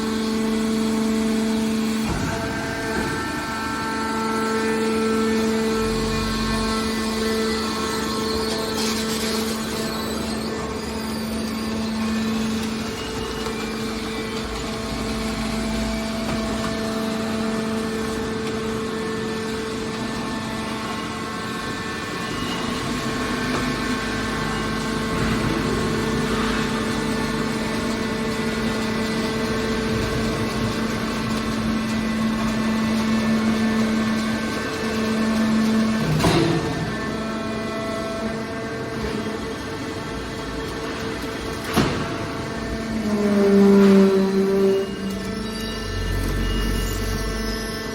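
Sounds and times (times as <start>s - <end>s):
scrap metal baler humming: 0.0s - 47.9s.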